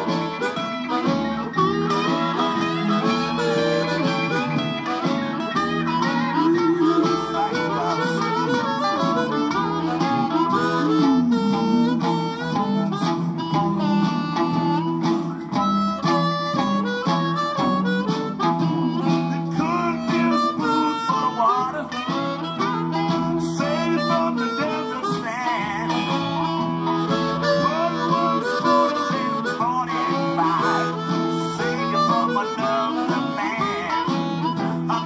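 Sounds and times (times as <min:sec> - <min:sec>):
amplified blues harmonica: 0:00.0 - 0:35.0
backing guitar: 0:00.0 - 0:35.0.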